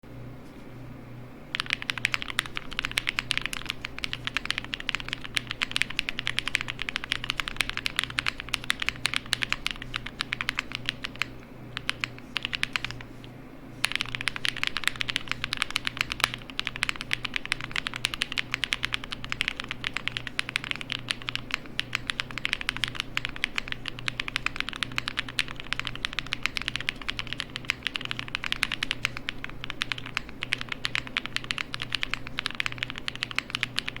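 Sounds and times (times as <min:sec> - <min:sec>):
typing on mechanical keyboard: 0:01.5 - 0:13.1, 0:13.8 - 0:34.0.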